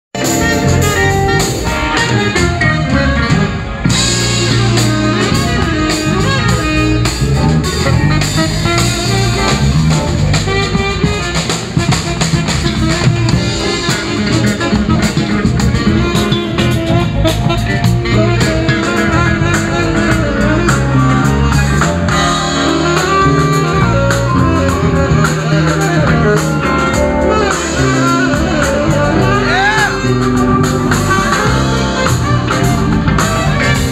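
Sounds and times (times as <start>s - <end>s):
live band playing instrumental: 0.1s - 33.9s.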